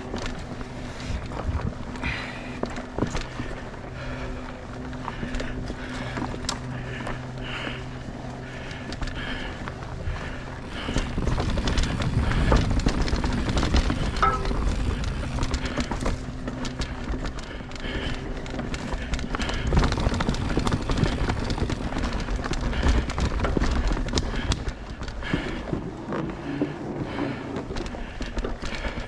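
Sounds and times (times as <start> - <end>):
bike clattering over bumps: 0.0 - 29.0
bike tyres on dirt and rocks: 0.0 - 29.0.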